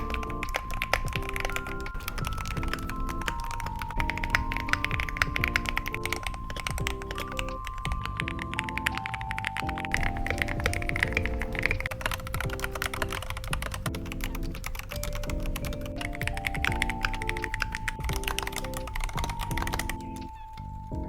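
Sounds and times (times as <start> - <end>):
rapid mechanical keyboard typing: 0.0 - 20.4.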